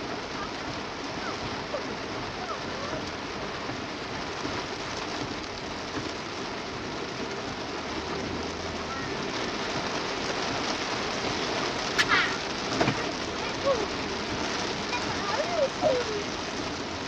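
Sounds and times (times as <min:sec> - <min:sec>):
heavy rain on a car: 0:00.0 - 0:17.0.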